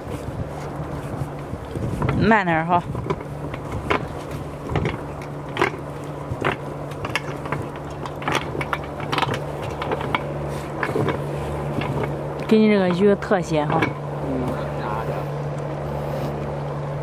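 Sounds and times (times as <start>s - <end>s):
net rope knocking against boat: 0.0s - 14.9s
low hum: 0.0s - 17.0s.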